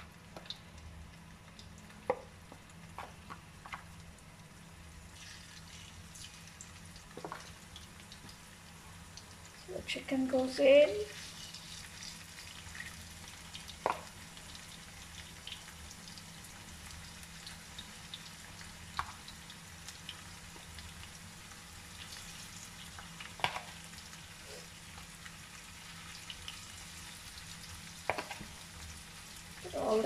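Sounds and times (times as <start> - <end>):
chicken frying in oil: 0.0 - 30.0.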